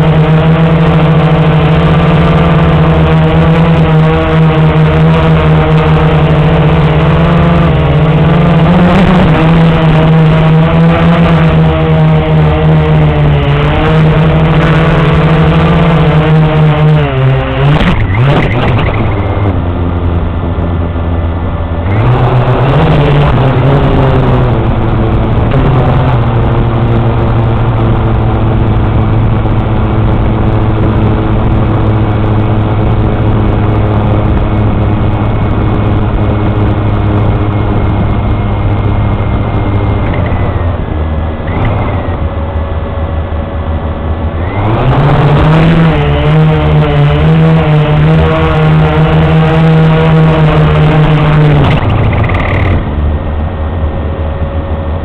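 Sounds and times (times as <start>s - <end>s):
quadcopter motors buzzing: 0.0s - 20.8s, 21.8s - 42.6s, 44.3s - 53.5s.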